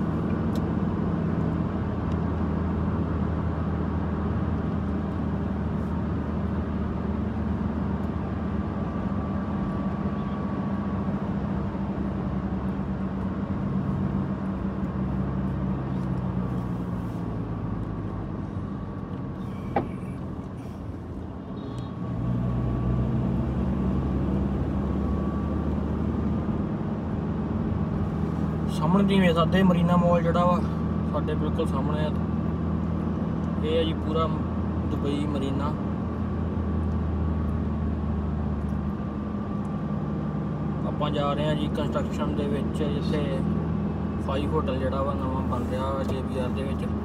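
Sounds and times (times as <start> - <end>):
car engine hum: 0.0 - 47.0
tyre and road noise: 0.0 - 47.0.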